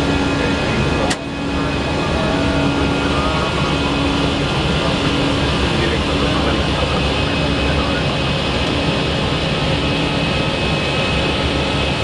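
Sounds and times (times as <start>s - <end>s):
airliner engine and airflow noise: 0.0s - 12.0s.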